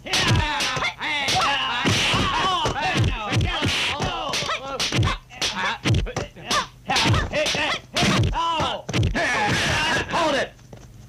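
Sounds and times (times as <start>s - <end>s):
fighters shouting cries: 0.0s - 10.5s
slapping punch hits: 0.1s - 9.7s.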